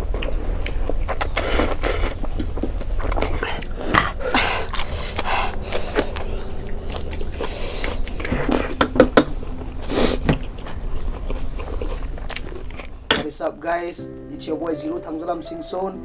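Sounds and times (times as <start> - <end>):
slurping and chewing noodles: 0.0 - 13.1.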